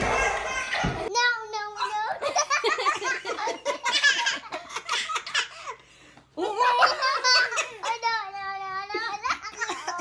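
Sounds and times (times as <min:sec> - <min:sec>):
baby and toddler laughing: 0:00.0 - 0:05.8, 0:06.4 - 0:10.0.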